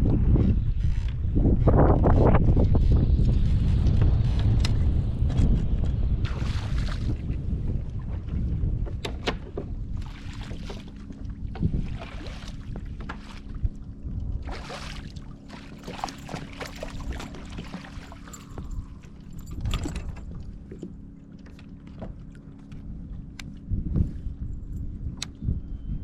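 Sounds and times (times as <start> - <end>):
low steady hum: 0.0 - 26.0
water splashing around kayak: 3.4 - 25.2.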